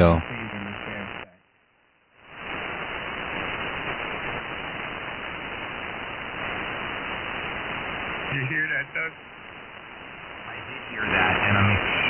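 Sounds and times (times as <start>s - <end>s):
radio static hiss: 0.0s - 1.4s, 2.2s - 12.0s.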